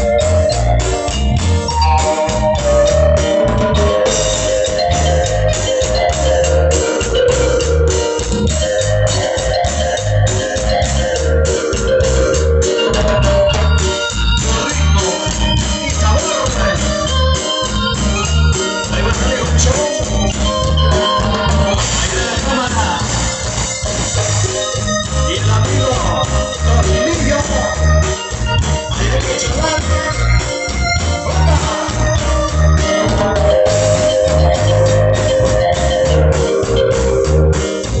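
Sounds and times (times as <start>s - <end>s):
bass beat: 0.0s - 38.0s
electronic organ notes: 0.0s - 38.0s
high percussion ticks: 0.0s - 38.0s.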